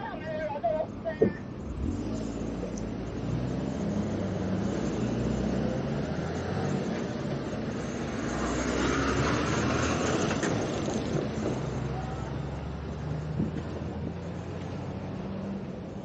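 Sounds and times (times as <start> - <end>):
garbage truck engine rumble: 0.0 - 16.0
road traffic: 0.0 - 16.0.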